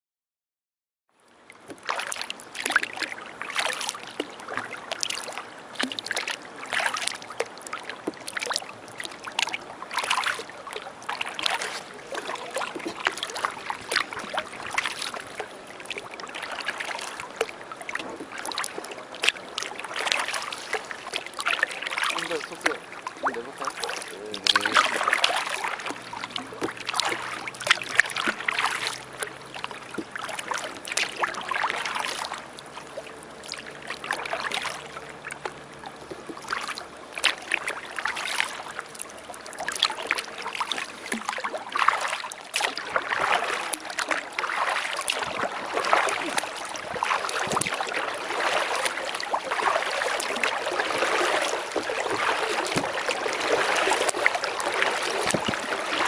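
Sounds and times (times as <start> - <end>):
paddle strokes splashing in water: 1.3 - 56.0.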